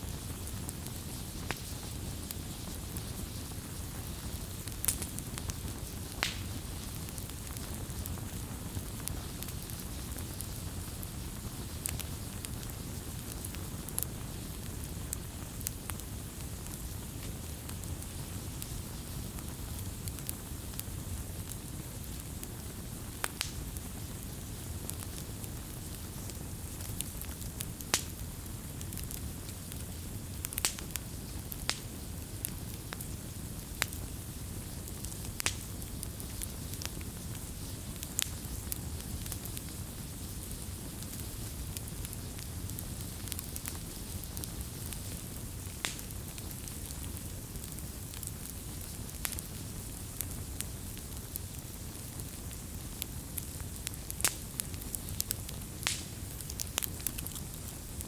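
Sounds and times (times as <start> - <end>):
campfire flames rumbling: 0.0 - 58.0
burning wood crackling: 0.1 - 58.0.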